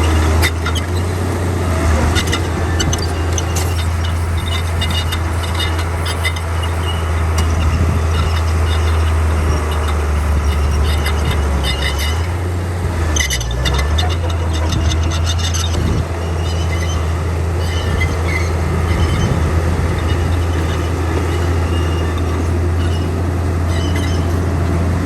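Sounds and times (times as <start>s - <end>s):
bulldozer diesel engine drone: 0.0s - 25.0s.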